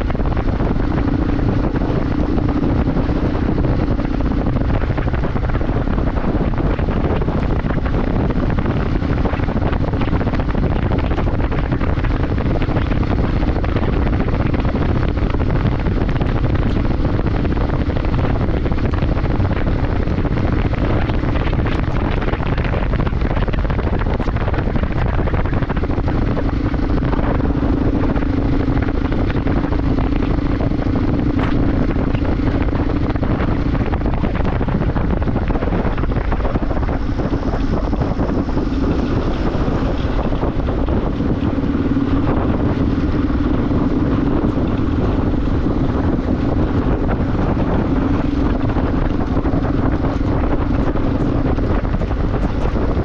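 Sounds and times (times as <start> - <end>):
motorcycle engine running: 0.0 - 53.0
wind noise on microphone: 0.0 - 53.0.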